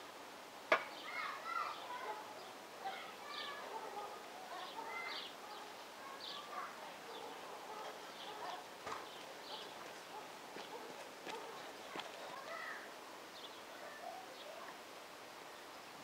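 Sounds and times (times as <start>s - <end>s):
small birds chirping: 0.9s - 15.9s
faint voices: 1.0s - 15.6s.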